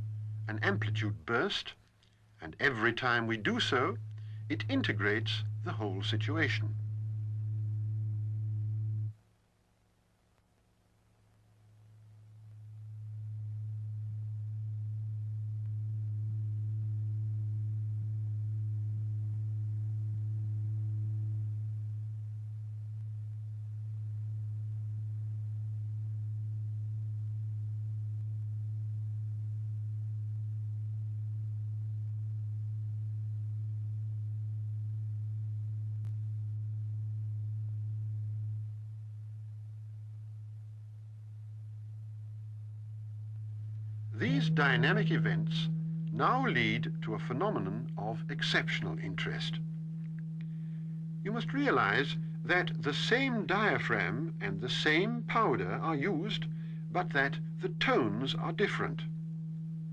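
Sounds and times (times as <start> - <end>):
low steady pure tone: 0.0 - 59.9.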